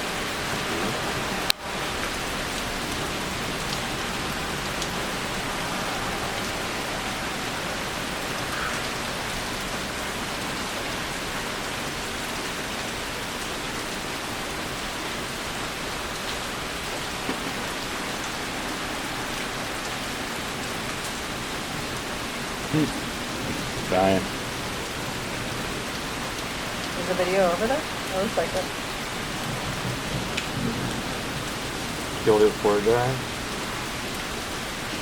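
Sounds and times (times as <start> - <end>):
heavy rain hissing: 0.0 - 35.0.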